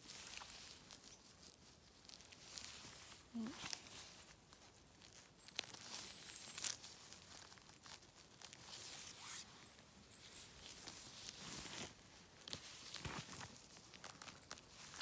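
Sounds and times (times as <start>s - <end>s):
rustling and tearing of moss: 0.0s - 15.0s.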